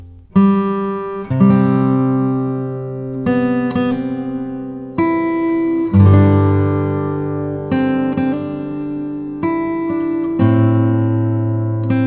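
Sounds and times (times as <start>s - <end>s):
strummed acoustic guitar chords: 0.0s - 12.0s.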